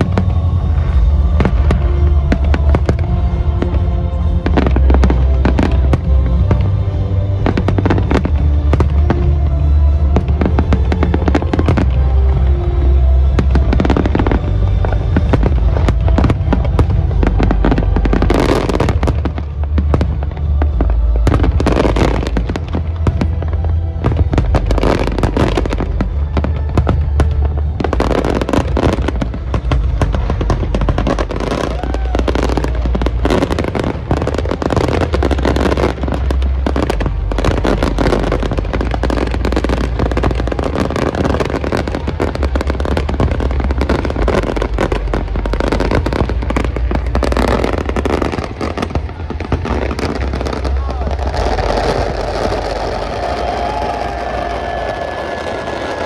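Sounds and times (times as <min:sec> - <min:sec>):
firework shells bursting and crackling: 0:00.0 - 0:56.0
music playing: 0:00.0 - 0:56.0.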